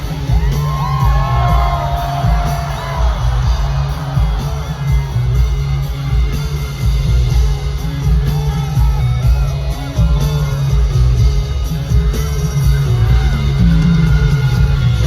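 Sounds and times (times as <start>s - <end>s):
heavy pulsing bass: 0.0s - 15.0s
wavering melodic lead line: 0.0s - 15.0s.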